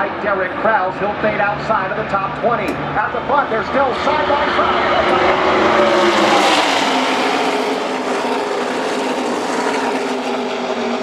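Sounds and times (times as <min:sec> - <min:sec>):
racing trucks passing at speed: 0:00.0 - 0:11.0.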